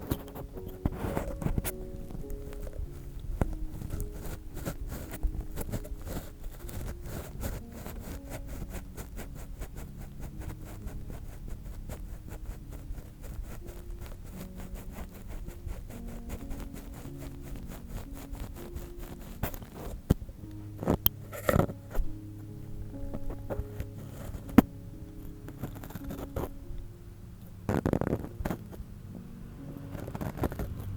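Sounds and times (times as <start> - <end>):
ear-pick scratching microphone: 0.0 - 26.8, 27.5 - 28.9, 29.7 - 30.9
soft background music: 0.0 - 30.9.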